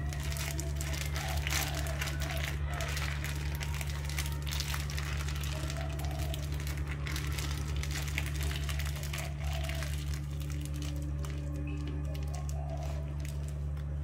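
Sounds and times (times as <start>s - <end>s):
broth boiling and bubbling: 0.0s - 14.0s
plastic packet crinkling: 0.0s - 14.0s
steady low hum: 0.0s - 14.0s.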